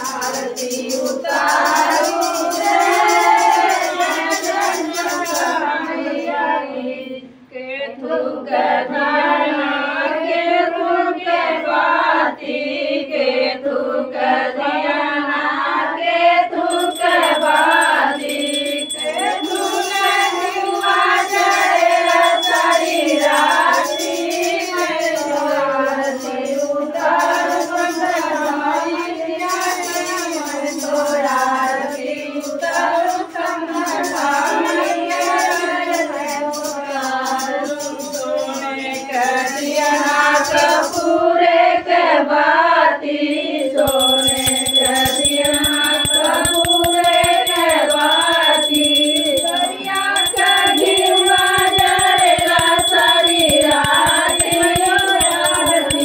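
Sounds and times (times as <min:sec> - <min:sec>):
women singing: 0:00.0 - 0:56.0.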